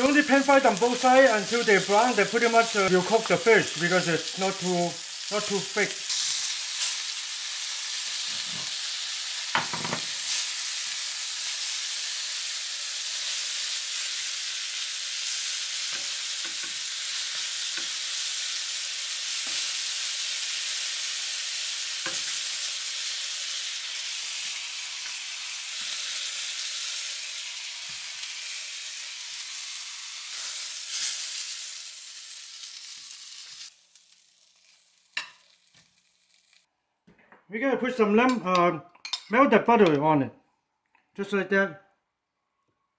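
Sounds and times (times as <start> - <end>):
fish sizzling in oil: 0.0 - 36.7.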